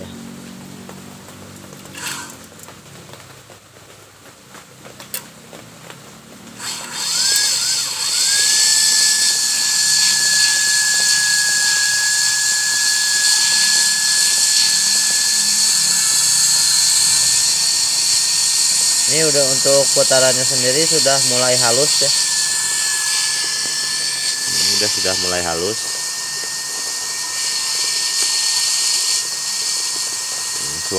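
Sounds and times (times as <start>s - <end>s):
cotton candy machine whine: 0.0s - 30.9s.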